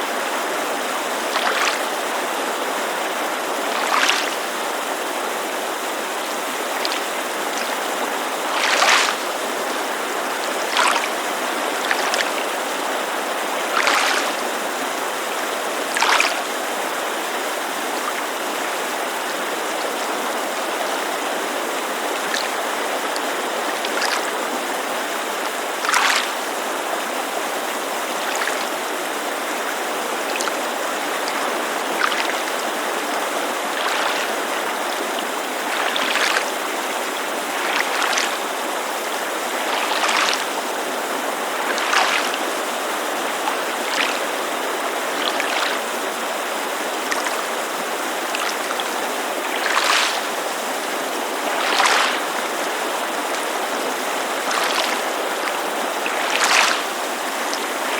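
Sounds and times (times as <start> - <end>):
creek rushing: 0.0 - 57.9
small waves lapping shore: 0.0 - 57.9.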